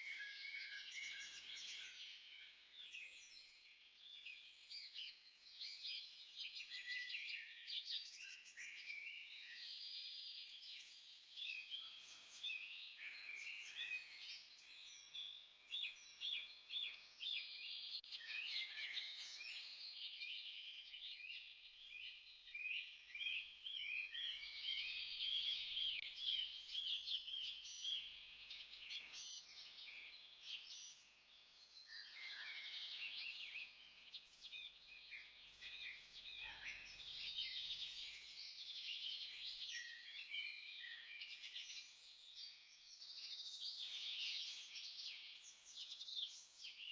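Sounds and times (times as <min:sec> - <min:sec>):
small birds chirping and singing: 0:00.0 - 0:46.9.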